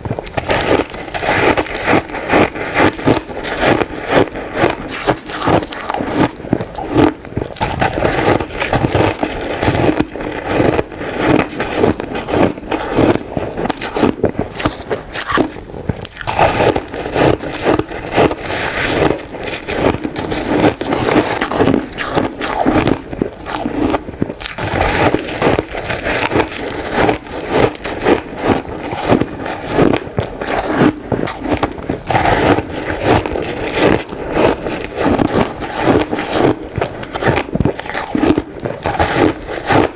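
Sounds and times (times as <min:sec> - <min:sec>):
crunchy chewing of shaved ice: 0:00.0 - 0:39.9.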